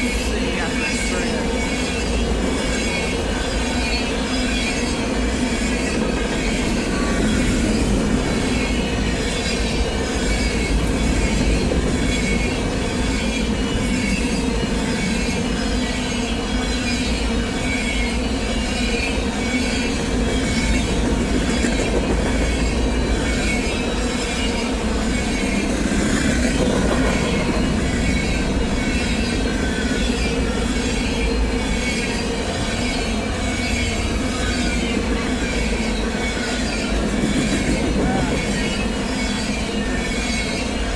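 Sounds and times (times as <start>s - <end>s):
train wheels clattering on rail: 0.0s - 40.9s.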